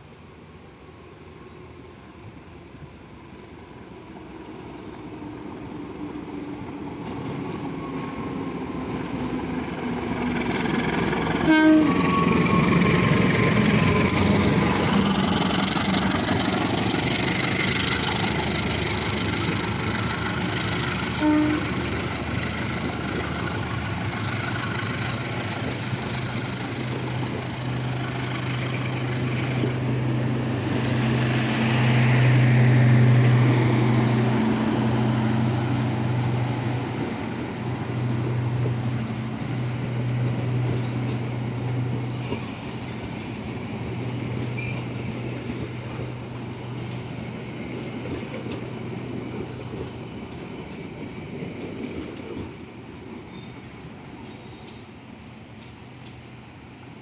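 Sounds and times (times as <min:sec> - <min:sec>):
train wheels on rails: 0:01.8 - 0:57.0.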